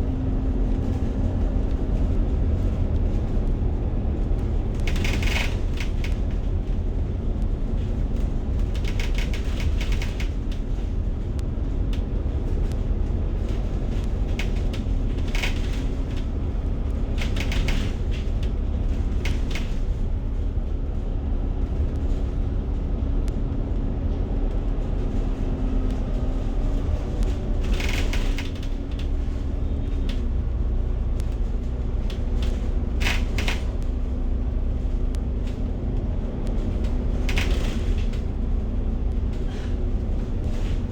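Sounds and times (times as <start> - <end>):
bus engine and road rumble: 0.0 - 40.9
constant hum: 0.0 - 40.9.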